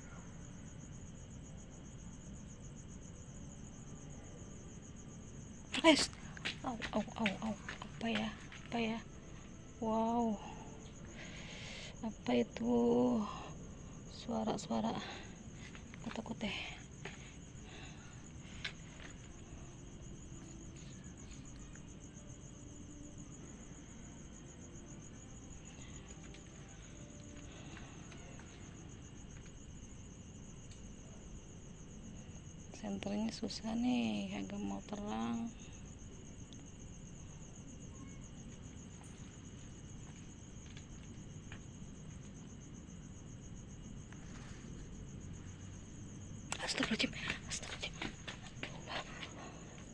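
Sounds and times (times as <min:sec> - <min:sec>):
cricket chirping: 0:00.0 - 0:49.9.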